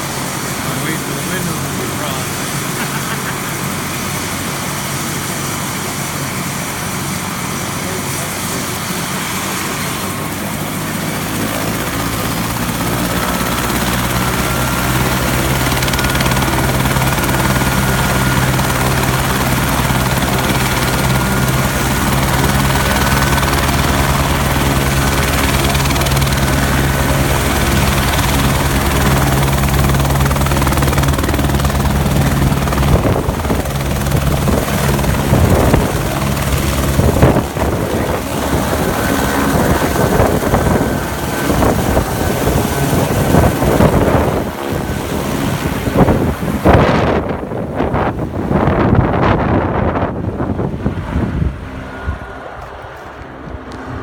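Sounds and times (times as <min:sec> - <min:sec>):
faint high engine whine: 0:00.0 - 0:54.0
helicopter rotor beating: 0:00.0 - 0:54.0.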